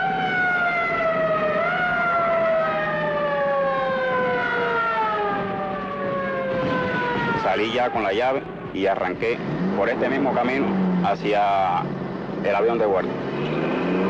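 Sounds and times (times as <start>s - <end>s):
air-raid sirens wailing: 0.0s - 14.0s.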